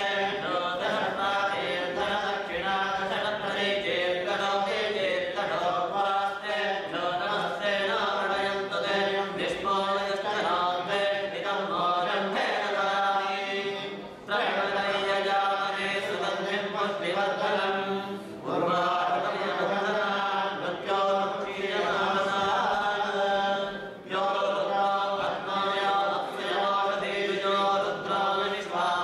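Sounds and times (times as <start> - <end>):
men chanting together: 0.0 - 29.0.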